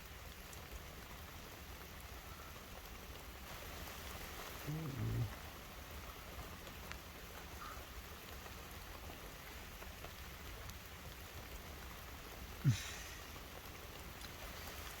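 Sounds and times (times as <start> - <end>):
rain falling on a car: 0.0 - 15.0.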